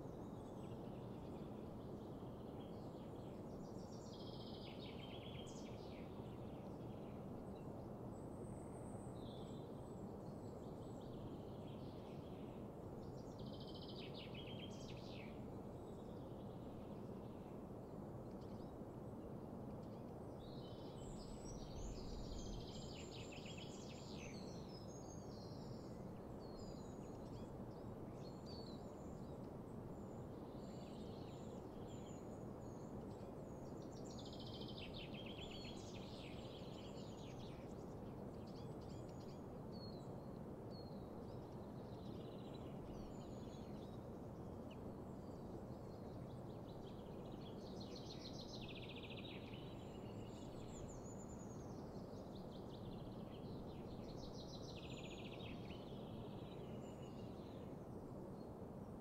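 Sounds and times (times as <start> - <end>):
songbirds singing: 0.0 - 19.0, 19.8 - 59.0.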